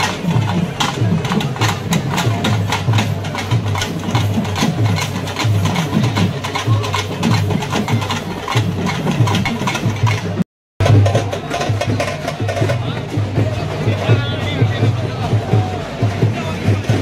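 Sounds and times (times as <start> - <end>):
deep drum beat: 0.0 - 17.0
sharp drum strokes: 0.0 - 17.0.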